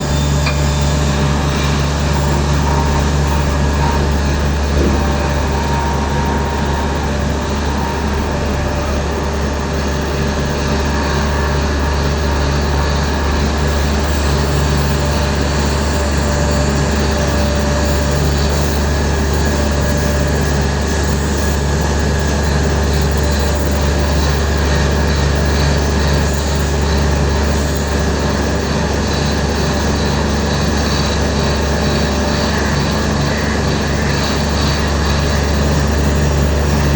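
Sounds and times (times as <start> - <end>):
faint steady whines: 0.0 - 36.9
paver diesel engine drone: 0.0 - 36.9.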